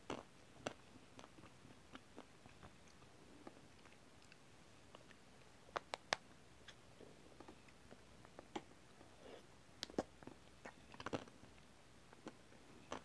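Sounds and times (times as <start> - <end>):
mouth sounds eating ice cream: 0.0 - 13.0.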